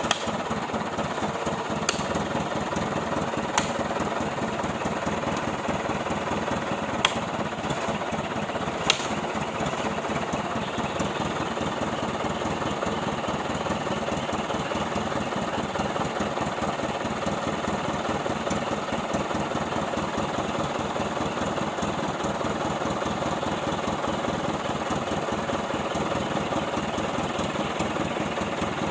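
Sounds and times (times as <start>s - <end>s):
truck engine knocking: 0.0s - 28.9s.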